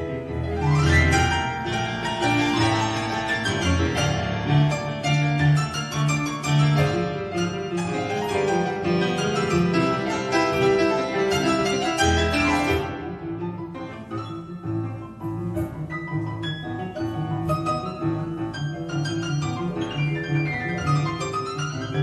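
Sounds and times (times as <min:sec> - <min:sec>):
classical keyboard music: 0:00.0 - 0:22.0.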